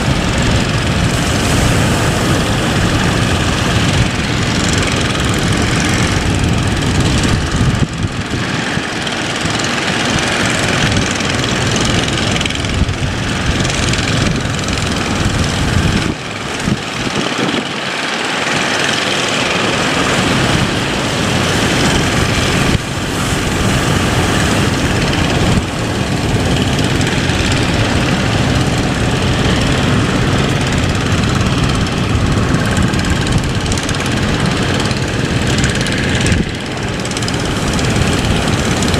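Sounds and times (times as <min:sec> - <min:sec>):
boat engine rumbling: 0:00.0 - 0:38.9
rushing water: 0:00.0 - 0:38.9
wind noise: 0:00.0 - 0:38.9.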